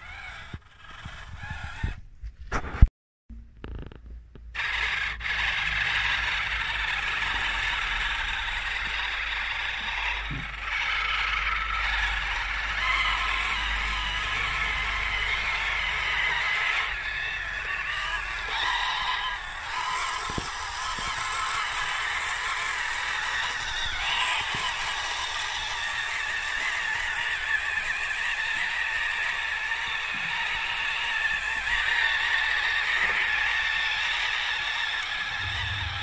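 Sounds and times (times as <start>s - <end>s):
electric motor running: 0.0s - 2.0s, 4.6s - 36.0s
tracks scraping and rattling: 4.6s - 36.0s.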